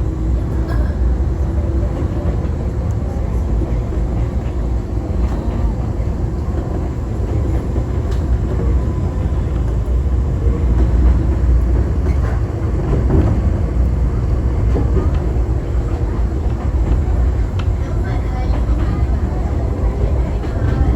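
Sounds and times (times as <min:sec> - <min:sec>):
electric train rumbling: 0:00.0 - 0:20.9.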